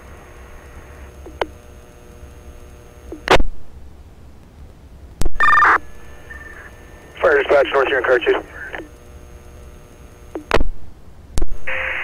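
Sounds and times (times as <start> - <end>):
radio static hiss and hum: 0.0 - 3.8, 4.4 - 12.0.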